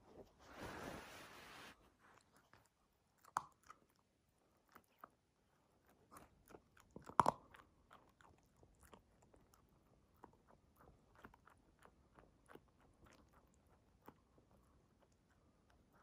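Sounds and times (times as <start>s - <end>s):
puppy crunching dry kibble: 2.0s - 16.0s.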